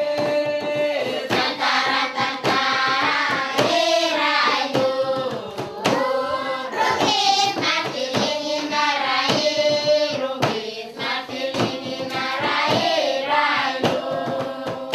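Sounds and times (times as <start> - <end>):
percussive beat: 0.0 - 14.9
voices singing a melody: 0.0 - 14.9.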